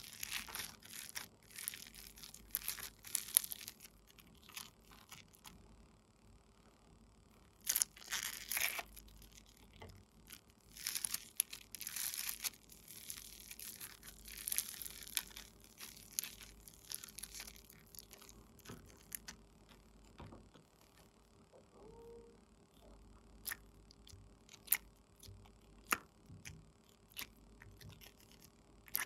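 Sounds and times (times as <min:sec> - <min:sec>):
slime crackling and crunching: 0:00.0 - 0:05.6, 0:07.5 - 0:21.0, 0:22.8 - 0:29.0.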